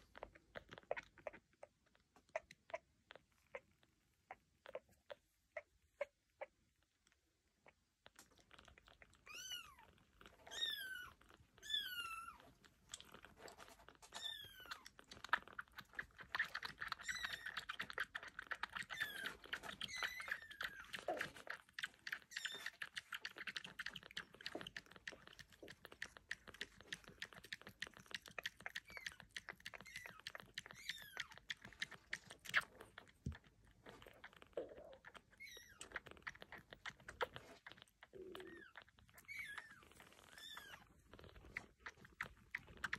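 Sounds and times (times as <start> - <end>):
kittens suckling at bottle: 0.0 - 42.9.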